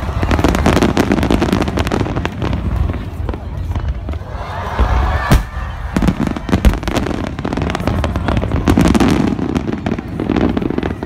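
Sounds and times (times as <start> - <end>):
fireworks cracks and pops: 0.0 - 11.0.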